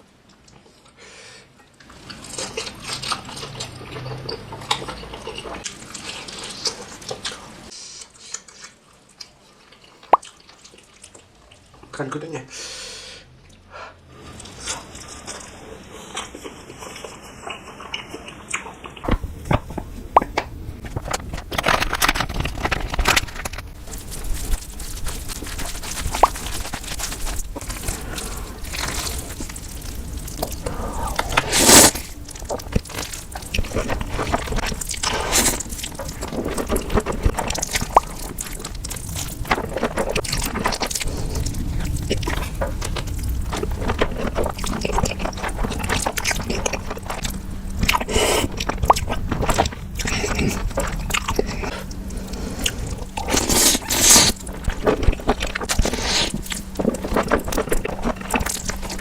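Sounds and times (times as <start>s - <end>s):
wet chewing and crunching: 1.8s - 11.9s, 14.2s - 59.0s.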